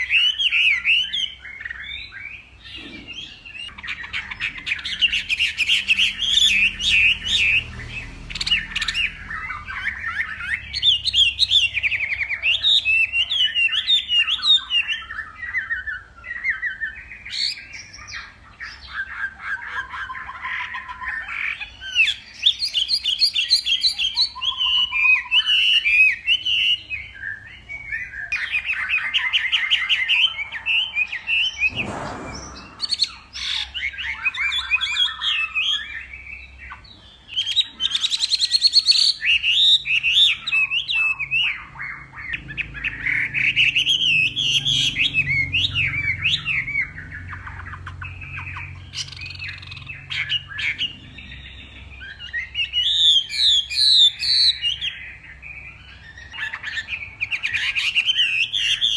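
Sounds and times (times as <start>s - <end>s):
songbird singing trills: 0.0s - 58.9s.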